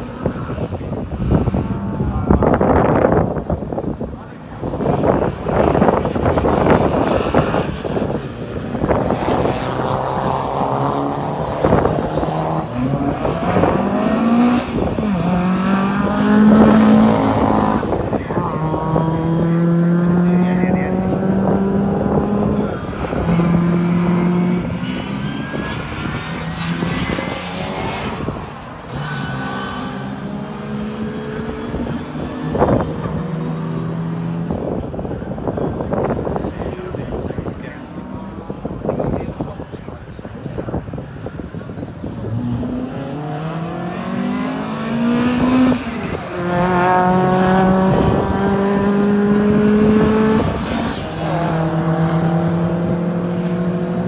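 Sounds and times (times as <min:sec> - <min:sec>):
rally car engines accelerating: 0:00.0 - 0:54.0.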